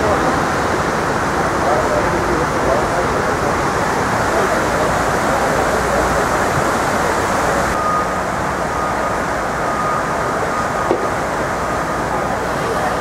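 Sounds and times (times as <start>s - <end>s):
city background rushing: 0.0s - 13.0s.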